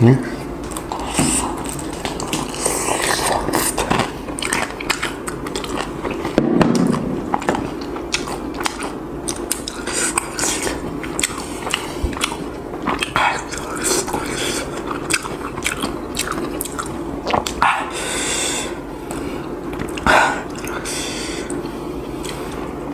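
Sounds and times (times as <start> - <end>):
biting and chewing fried chicken: 0.4 - 22.9.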